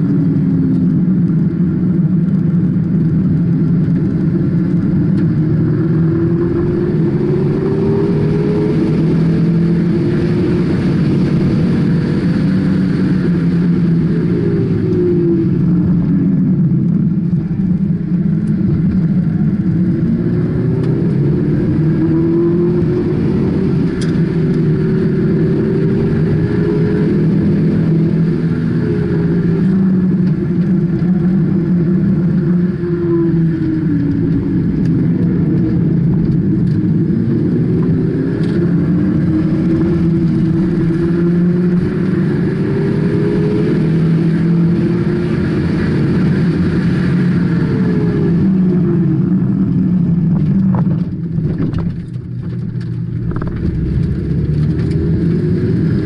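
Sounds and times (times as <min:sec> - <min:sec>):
car engine revving: 0:00.0 - 0:56.0
road rumble: 0:00.0 - 0:56.0.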